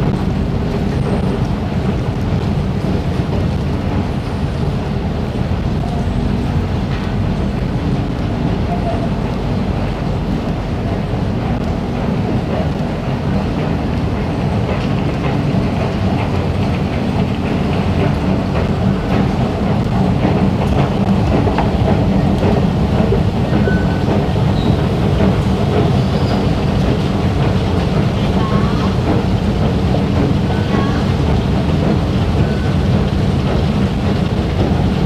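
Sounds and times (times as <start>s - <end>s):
station machinery and rail rumble: 0.0s - 35.0s.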